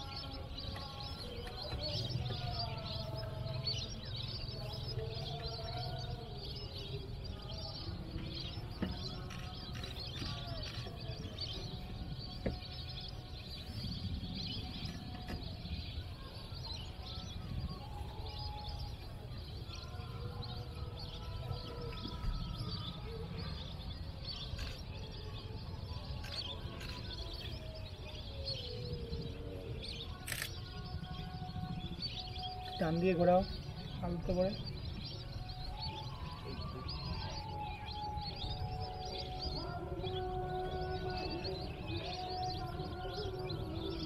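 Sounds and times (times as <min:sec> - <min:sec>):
birds chirping and calling: 0:00.0 - 0:44.0.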